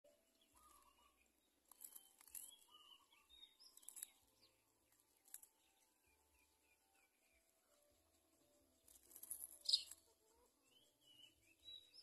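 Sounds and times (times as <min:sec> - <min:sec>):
small birds chirping and whistling: 0:00.2 - 0:12.0.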